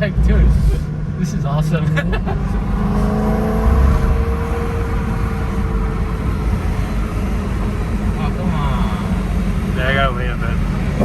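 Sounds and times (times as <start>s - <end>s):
car engine drone from inside cabin: 0.0s - 11.0s.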